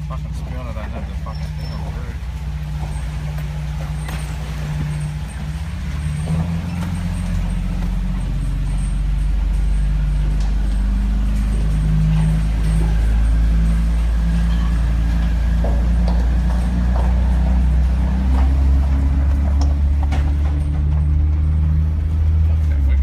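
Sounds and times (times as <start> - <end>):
vehicle engine hum from cabin: 0.0 - 23.0
knocks over rough track: 1.2 - 22.4.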